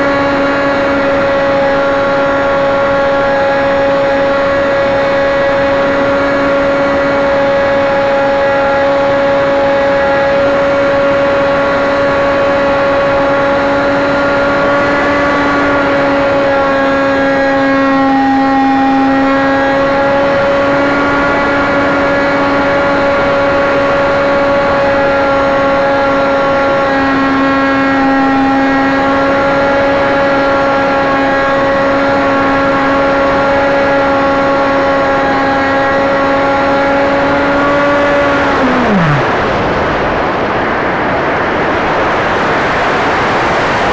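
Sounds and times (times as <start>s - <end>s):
model airplane engine drone: 0.0s - 43.9s.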